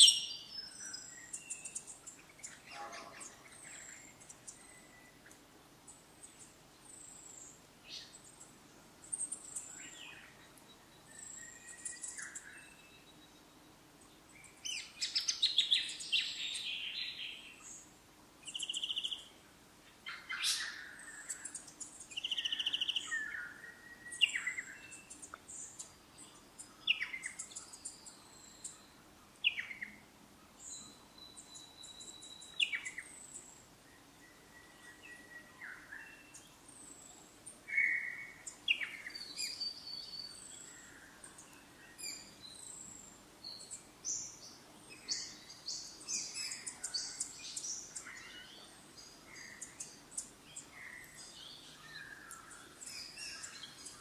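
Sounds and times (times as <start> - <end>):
wild birds calling and singing: 0.0 - 54.0.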